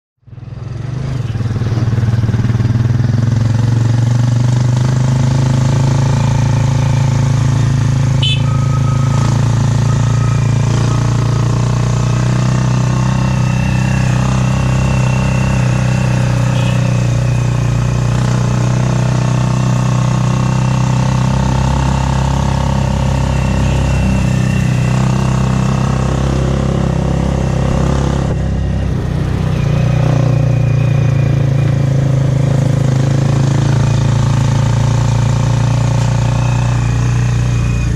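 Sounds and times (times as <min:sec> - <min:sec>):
motorcycle engine running: 0:00.2 - 0:37.9.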